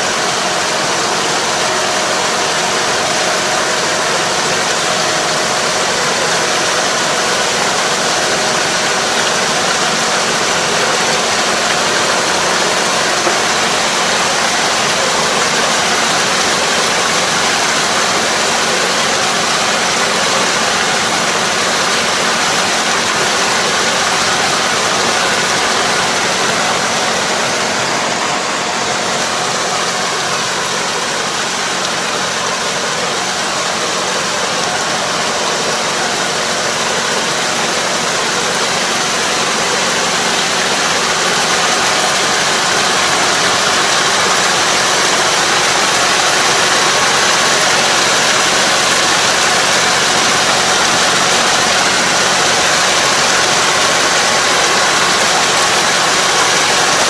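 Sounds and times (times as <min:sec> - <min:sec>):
harrow churning muddy water: 0:00.0 - 0:57.0
tractor diesel engine running: 0:00.0 - 0:57.0.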